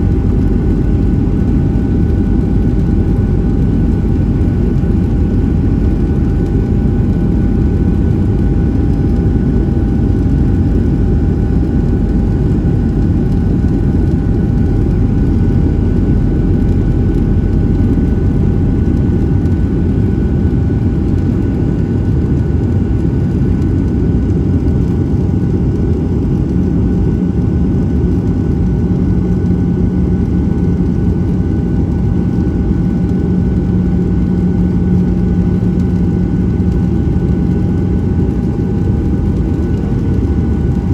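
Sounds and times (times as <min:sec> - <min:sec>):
faint steady whine: 0:00.0 - 0:40.9
jet engines rumbling: 0:00.0 - 0:40.9
low hum: 0:00.0 - 0:40.9.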